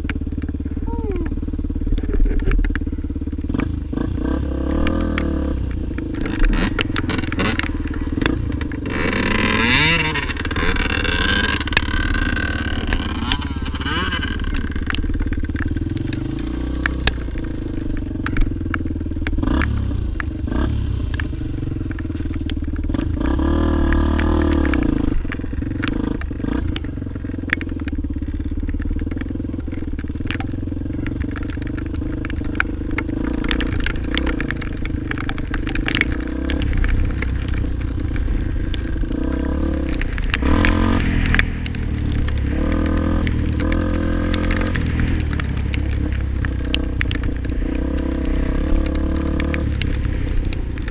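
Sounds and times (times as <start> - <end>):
clatter and scraping: 0.0 - 50.9
motorcycle engine revving: 0.0 - 50.9.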